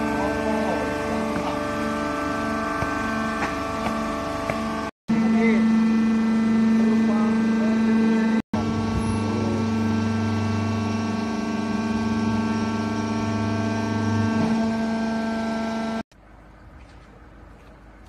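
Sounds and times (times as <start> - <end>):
deeper machine hum: 0.0 - 16.6
hydraulic power unit humming: 0.0 - 18.0.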